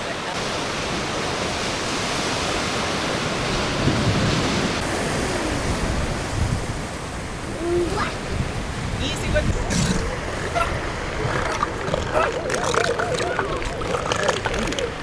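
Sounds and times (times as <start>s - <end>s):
ocean surf washing on beach: 0.0s - 15.0s
wind on microphone: 0.7s - 15.0s.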